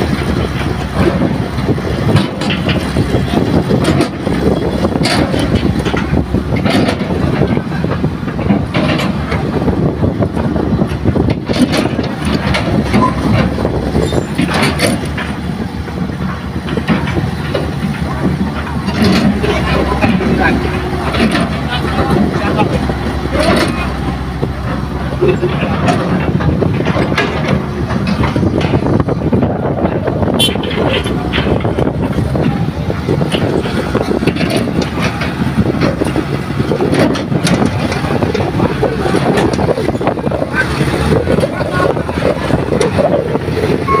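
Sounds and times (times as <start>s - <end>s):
clanks and knocks: 0.0s - 44.0s
excavator diesel engine running: 0.0s - 44.0s.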